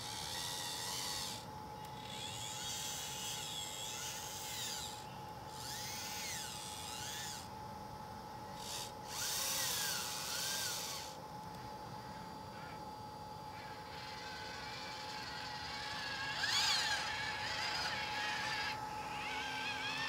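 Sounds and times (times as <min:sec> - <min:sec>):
electric motors whining: 0:00.0 - 0:07.7, 0:08.4 - 0:20.0.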